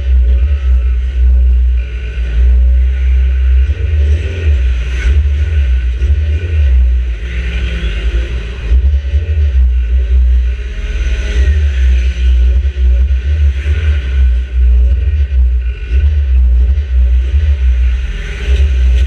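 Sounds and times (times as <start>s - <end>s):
race car engine deep rumble: 0.0s - 19.0s.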